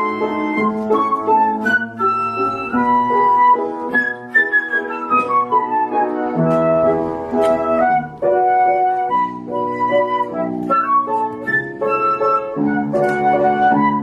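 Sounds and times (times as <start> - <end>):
flute melody with accompaniment: 0.0 - 14.0.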